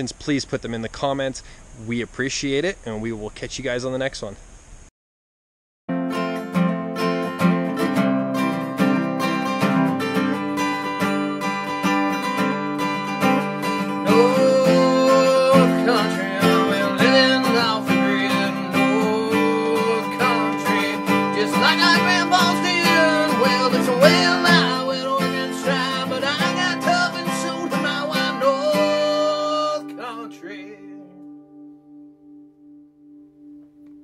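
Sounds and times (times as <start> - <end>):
country acoustic guitar music: 5.9 - 33.9.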